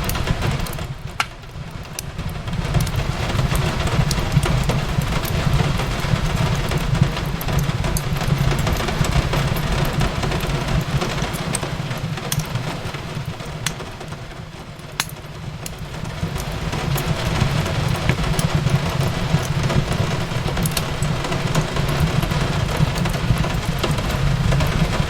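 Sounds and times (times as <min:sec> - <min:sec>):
fireplace crackling and popping: 0:00.0 - 0:25.0
rain on a window: 0:00.0 - 0:25.0.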